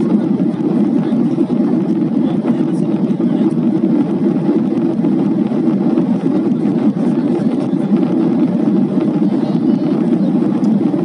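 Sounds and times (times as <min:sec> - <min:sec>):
jet engine noise in airliner cabin: 0:00.0 - 0:11.0.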